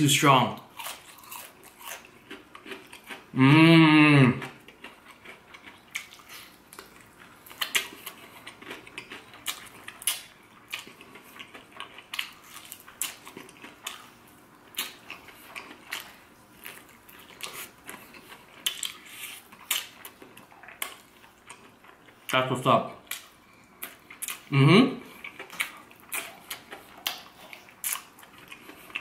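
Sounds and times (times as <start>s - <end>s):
person chewing crunchy food: 0.6s - 22.3s, 23.0s - 29.0s.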